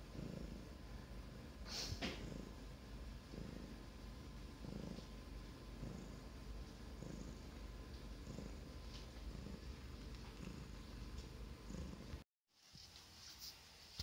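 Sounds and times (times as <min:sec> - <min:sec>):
cat purring: 0:00.0 - 0:12.2.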